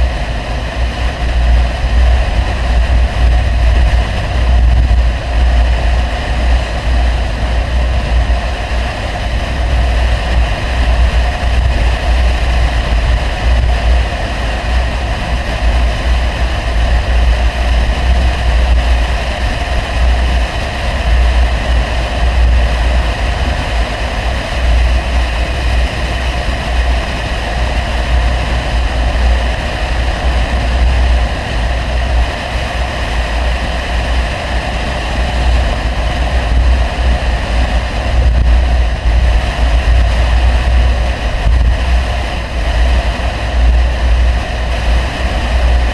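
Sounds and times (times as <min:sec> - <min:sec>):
car engine cruising drone: 0:00.0 - 0:45.9.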